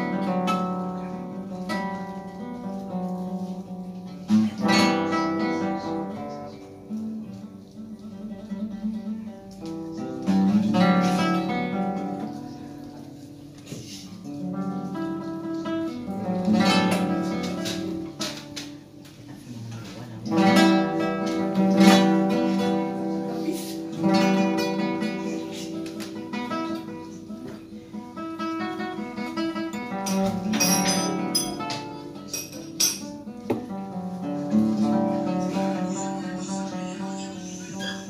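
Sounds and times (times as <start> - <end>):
classical guitar fingerstyle: 0.0 - 38.0.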